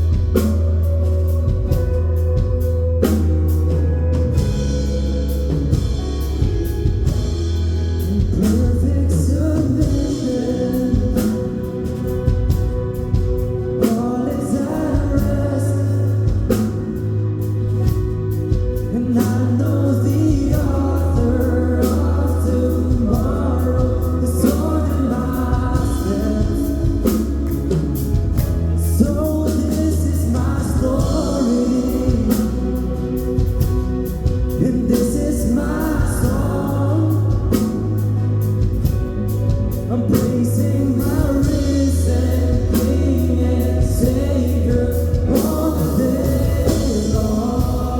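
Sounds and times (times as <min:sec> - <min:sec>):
band playing with steady bass: 0:00.0 - 0:47.9
voices singing gospel song: 0:00.0 - 0:47.9.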